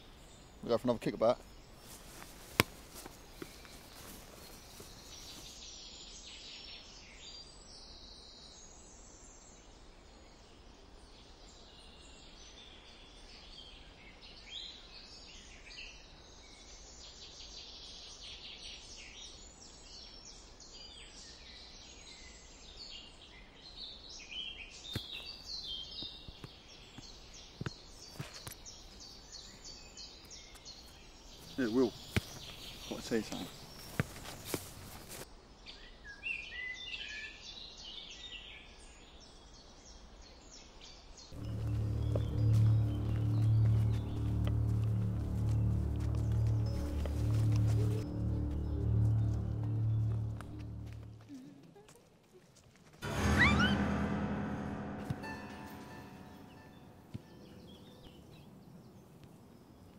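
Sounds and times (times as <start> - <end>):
small birds chirping: 0.0 - 52.7.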